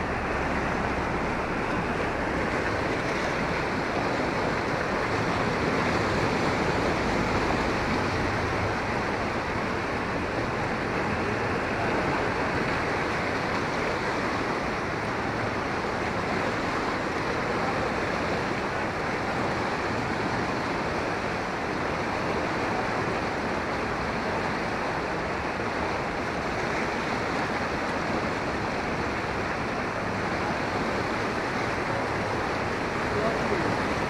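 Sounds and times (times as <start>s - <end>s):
floodwater rushing: 0.0s - 34.0s.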